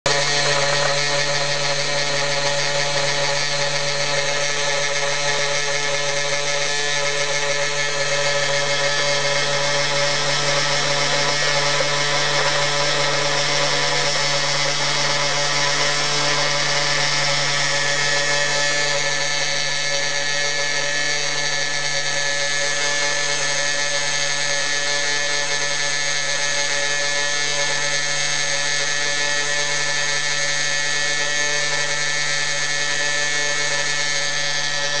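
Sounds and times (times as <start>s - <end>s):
milling machine spindle whine: 0.1s - 35.0s.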